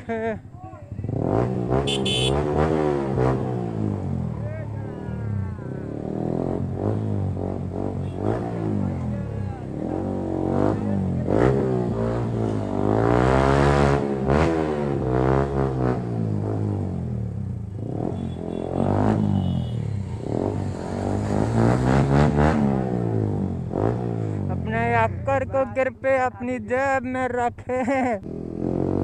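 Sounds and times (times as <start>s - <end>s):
motorcycles revving: 0.0s - 29.0s.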